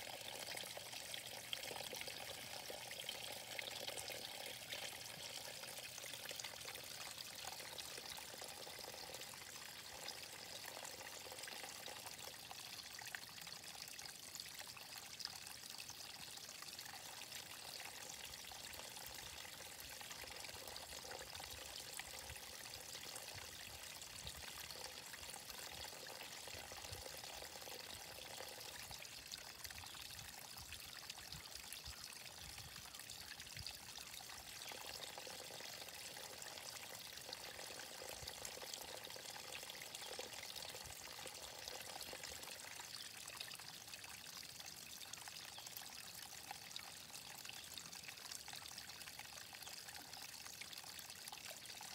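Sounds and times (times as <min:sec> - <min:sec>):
water trickling into pond: 0:00.0 - 0:51.9.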